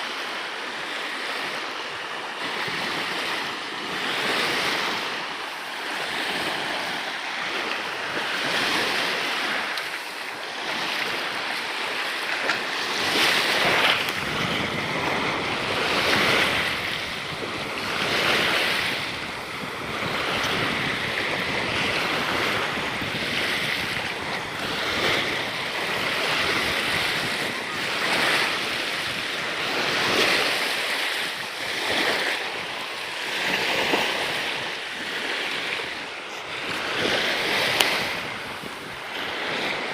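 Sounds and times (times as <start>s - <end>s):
wind buffeting microphone: 1.4s - 39.9s
sea water splashing against hull: 2.4s - 39.9s.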